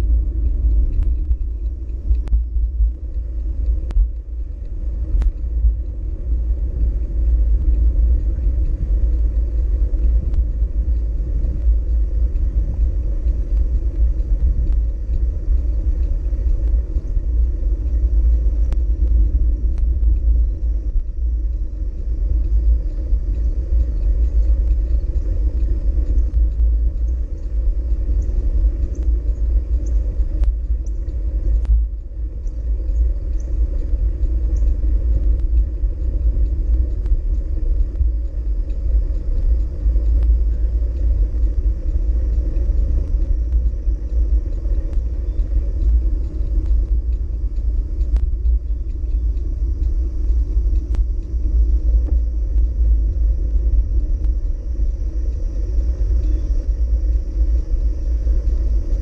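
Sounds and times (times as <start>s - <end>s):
faint high ticks: 0.0s - 59.0s
road noise: 0.0s - 59.0s
wind buffeting microphone: 0.0s - 59.0s.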